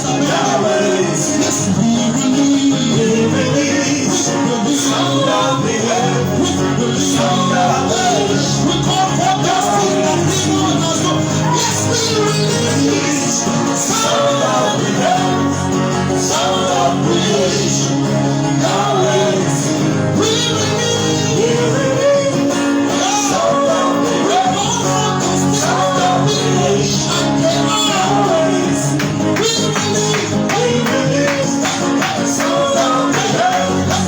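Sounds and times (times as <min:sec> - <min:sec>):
person singing: 0:00.0 - 0:34.0.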